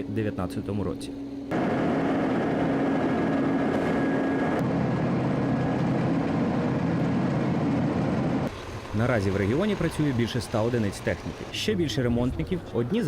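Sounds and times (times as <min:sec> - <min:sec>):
diesel construction machinery running: 0:01.2 - 0:13.0.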